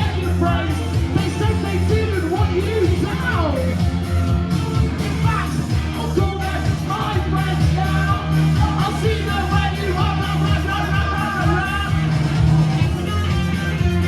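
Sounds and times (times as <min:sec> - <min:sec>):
person singing: 0:00.0 - 0:03.9, 0:05.0 - 0:14.0
drum beat: 0:00.0 - 0:14.0
live rock band playing: 0:00.0 - 0:14.0.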